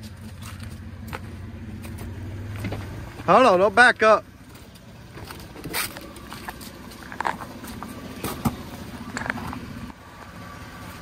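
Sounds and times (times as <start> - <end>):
truck engine at low revs: 0.0 - 11.0.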